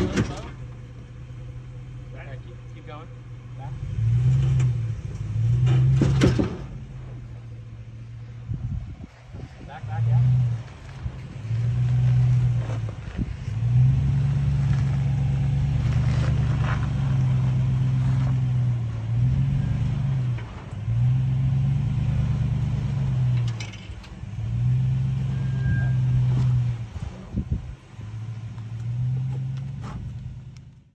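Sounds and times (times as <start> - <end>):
truck engine revving: 0.0 - 30.9.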